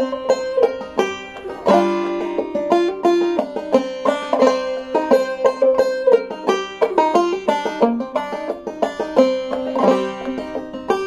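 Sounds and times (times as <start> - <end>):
banjo playing: 0.0 - 11.0.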